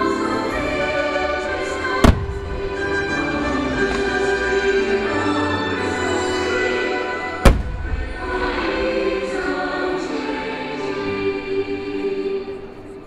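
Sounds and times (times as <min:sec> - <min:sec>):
choir singing with music: 0:00.0 - 0:13.0.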